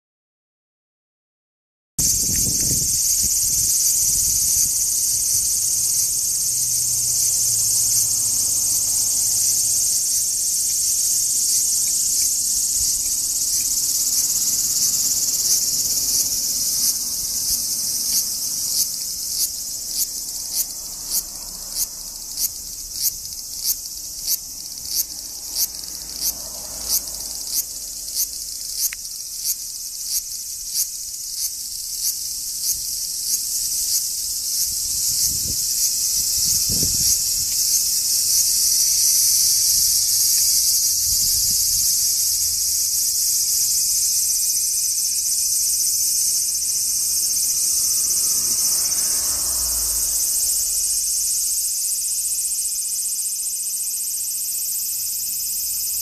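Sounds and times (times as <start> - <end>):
cicadas buzzing: 2.0 - 56.0.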